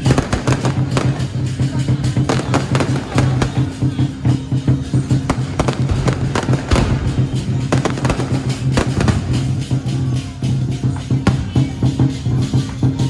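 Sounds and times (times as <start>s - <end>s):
firecrackers popping: 0.0s - 12.8s
loud music with pulsing beat: 0.0s - 13.0s.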